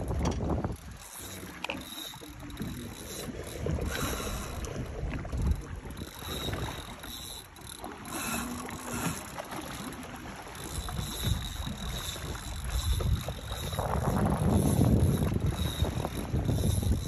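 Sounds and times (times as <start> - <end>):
wind rumbling on microphone: 0.0 - 7.3, 8.2 - 17.0
water lapping against boat hull: 0.0 - 17.0.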